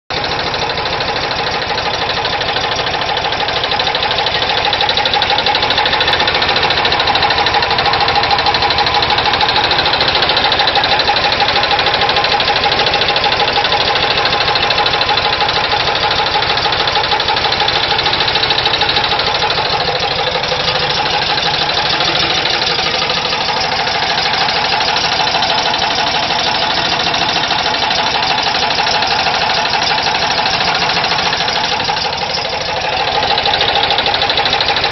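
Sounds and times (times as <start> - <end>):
engine running with knocking: 0.1 - 34.9.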